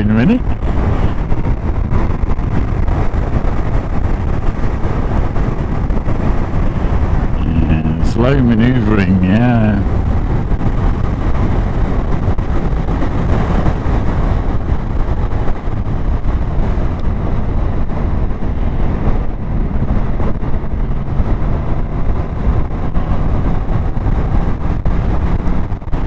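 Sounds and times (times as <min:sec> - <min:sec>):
motorcycle engine running: 0:00.0 - 0:26.0
wind and road rush: 0:00.0 - 0:26.0.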